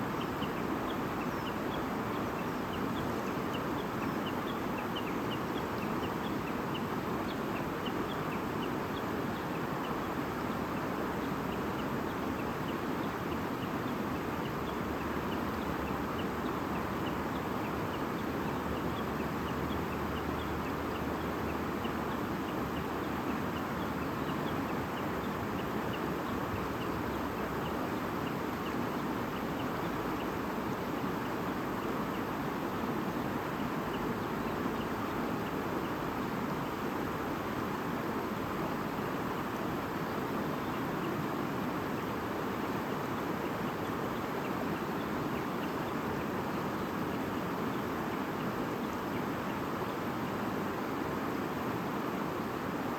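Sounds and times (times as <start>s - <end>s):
small birds chirping: 0.0s - 50.2s.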